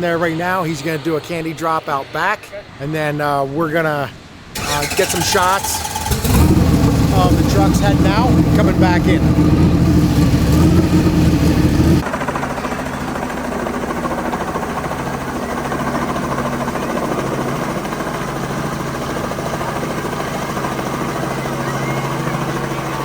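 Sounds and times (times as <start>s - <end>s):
helicopter running: 4.5s - 23.0s
low engine rumble: 4.6s - 23.0s.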